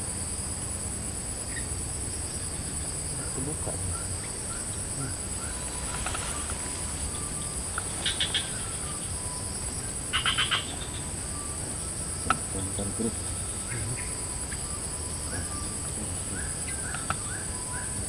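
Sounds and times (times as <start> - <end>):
frogs pulsed calls: 0.0 - 18.0
insects droning: 0.0 - 18.0
faint chirps: 1.4 - 18.0.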